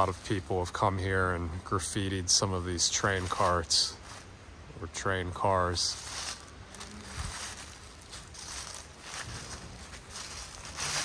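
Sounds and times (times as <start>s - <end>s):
low rumble with hiss: 0.0s - 11.0s.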